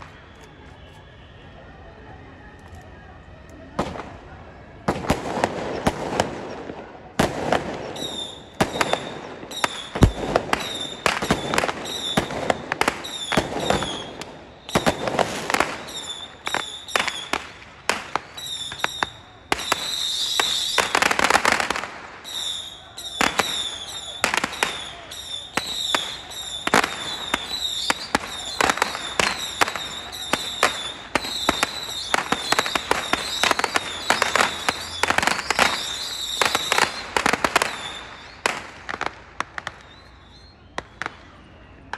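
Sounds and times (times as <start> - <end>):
dense firecracker crackle: 0.0 - 41.9
firecrackers banging: 3.6 - 41.9.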